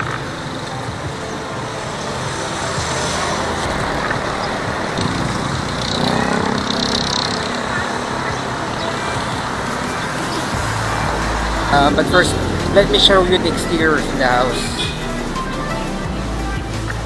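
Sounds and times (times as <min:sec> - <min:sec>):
motorcycle engines passing: 0:00.0 - 0:17.0
road noise: 0:00.0 - 0:17.0.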